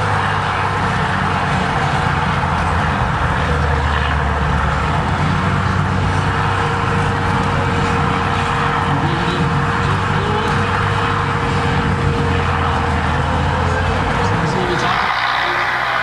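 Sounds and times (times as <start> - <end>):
thin steady whine: 0.0 - 16.0
tractor diesel engine under load: 0.0 - 16.0.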